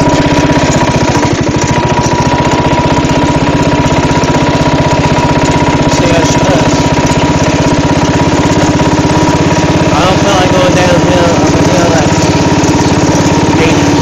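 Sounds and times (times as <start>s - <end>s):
riding lawn mower engine running: 0.0s - 14.0s.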